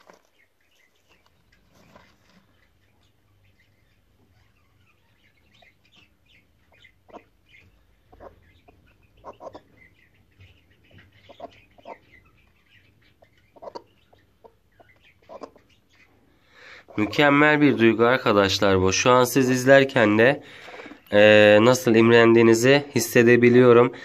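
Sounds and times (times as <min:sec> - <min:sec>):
hen clucking: 0:00.0 - 0:24.0.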